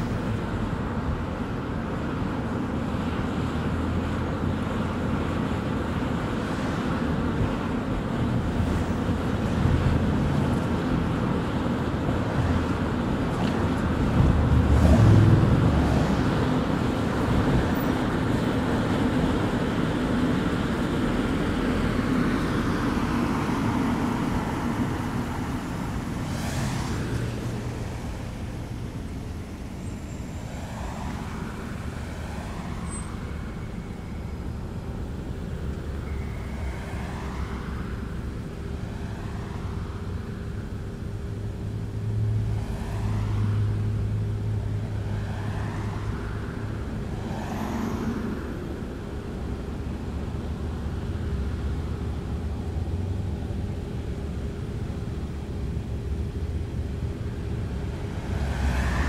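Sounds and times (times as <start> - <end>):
car engine rumble: 0.0 - 59.0
car tyre and road noise: 0.0 - 59.0.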